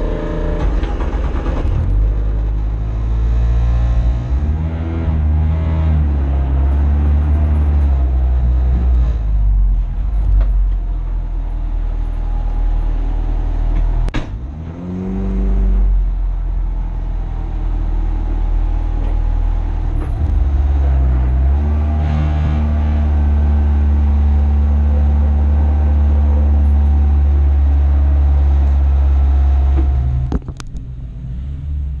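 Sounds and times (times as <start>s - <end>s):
car engine running at low revs: 0.0s - 32.0s.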